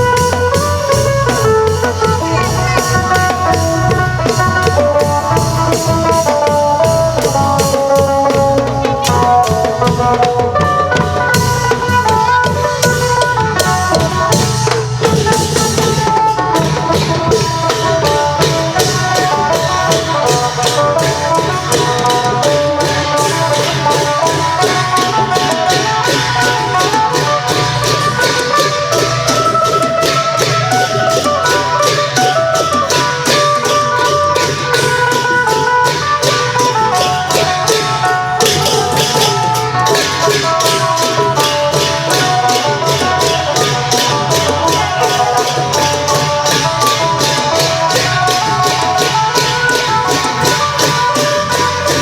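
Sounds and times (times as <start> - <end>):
long drums playing fast rhythm: 0.0 - 52.0.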